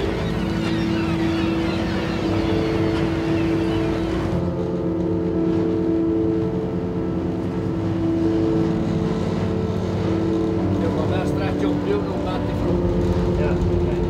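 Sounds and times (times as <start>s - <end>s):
boat engine droning: 0.0s - 14.0s
water rushing along hull: 0.0s - 14.0s.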